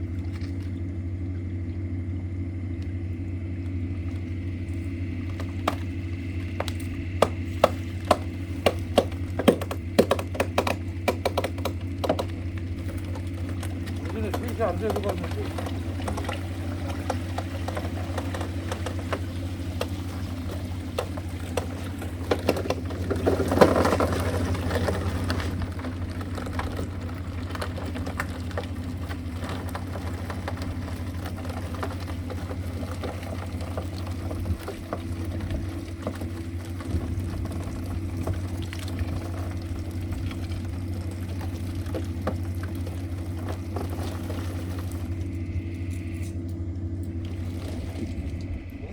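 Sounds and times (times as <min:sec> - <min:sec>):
power unit droning: 0:00.0 - 0:48.9.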